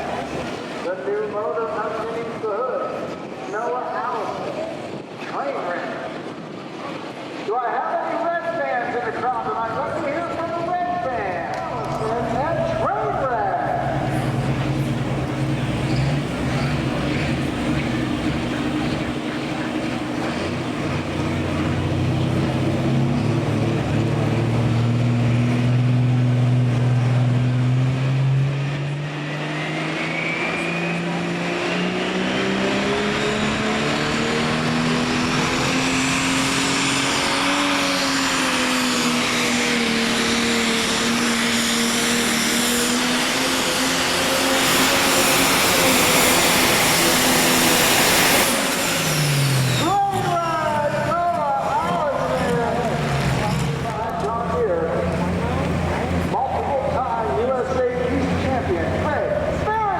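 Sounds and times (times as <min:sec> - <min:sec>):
diesel engine running under load: 0:09.0 - 0:59.9.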